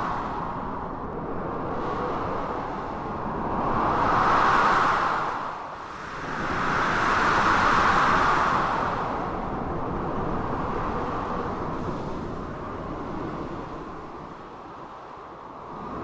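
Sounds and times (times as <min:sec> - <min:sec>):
blizzard wind: 0:00.0 - 0:16.0.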